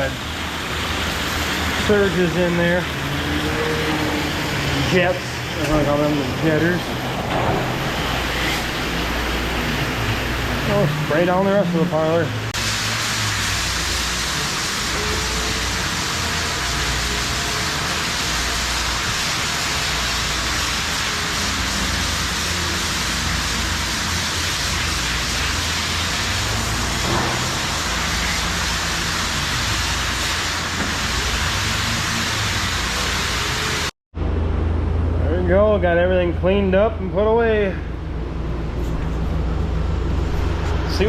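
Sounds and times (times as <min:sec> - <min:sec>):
hose spraying water: 0:00.0 - 0:33.9.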